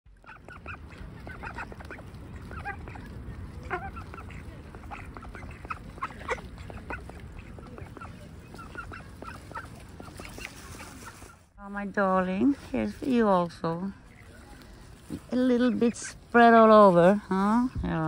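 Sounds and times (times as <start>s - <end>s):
ducks quacking: 0.1s - 11.5s, 14.0s - 17.2s
low steady rumble: 0.1s - 18.0s.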